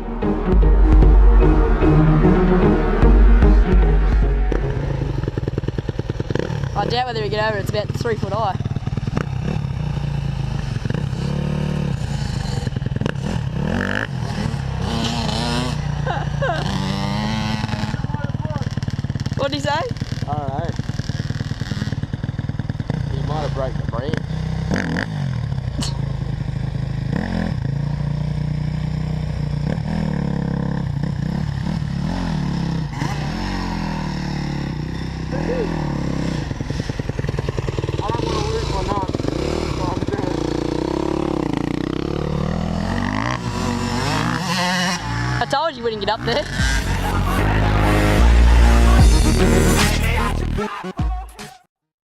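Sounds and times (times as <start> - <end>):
dirt bike engine revving: 0.0 - 50.6.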